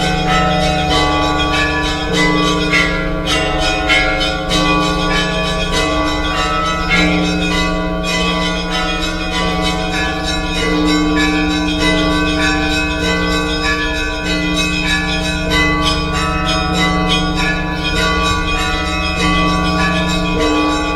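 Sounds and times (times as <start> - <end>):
church bells pealing: 0.0 - 20.9.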